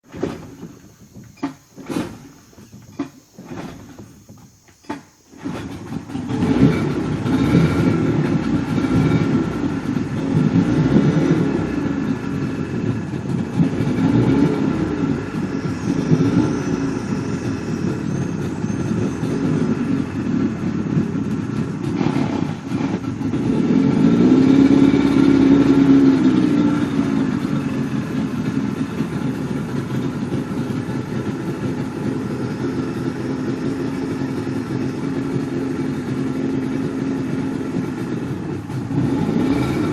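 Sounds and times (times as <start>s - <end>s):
motorboat engine revving: 5.3s - 39.9s.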